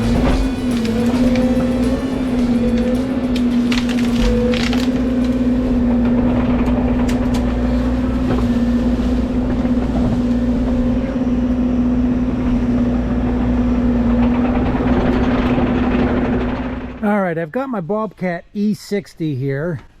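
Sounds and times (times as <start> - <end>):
excavator diesel engine running: 0.0 - 18.1.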